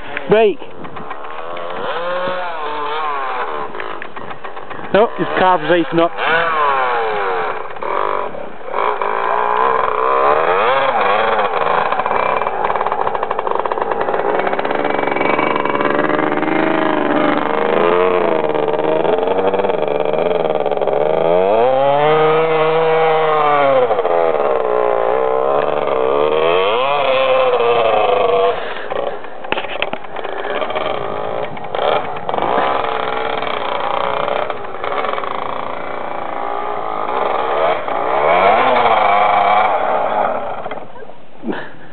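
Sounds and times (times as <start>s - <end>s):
dirt bike engine revving: 0.0s - 41.7s.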